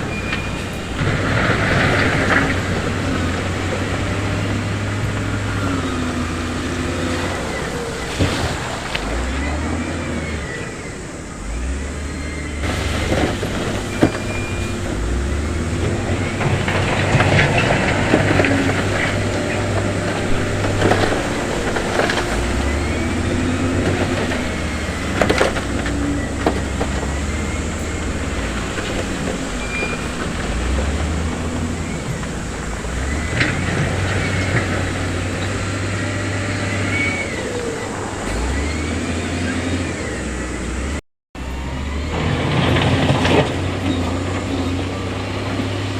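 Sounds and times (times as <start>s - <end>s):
heavy diesel machinery running: 0.0s - 45.9s.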